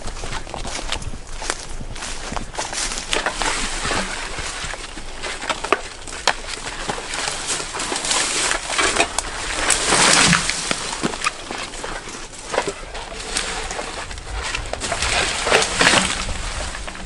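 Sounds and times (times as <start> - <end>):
footsteps crunching through dry debris: 0.0 - 17.0
twigs snapping: 2.3 - 17.0.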